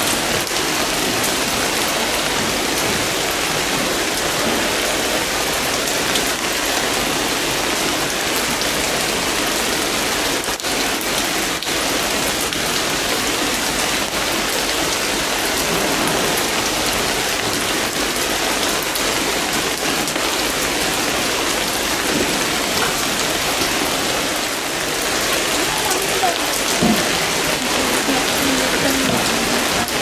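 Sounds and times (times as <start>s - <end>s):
rain on hard surfaces: 0.0s - 30.0s.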